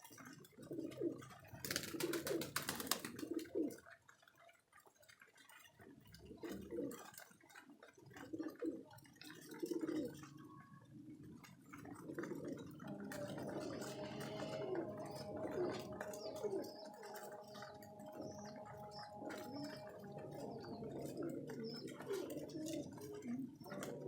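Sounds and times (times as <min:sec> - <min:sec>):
pigeons cooing: 0:00.1 - 0:03.9, 0:06.2 - 0:07.4, 0:08.0 - 0:24.0.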